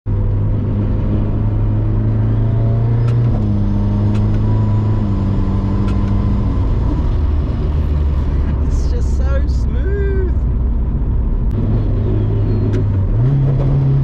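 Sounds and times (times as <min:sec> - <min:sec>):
car engine pulling through gears: 0:00.1 - 0:14.0.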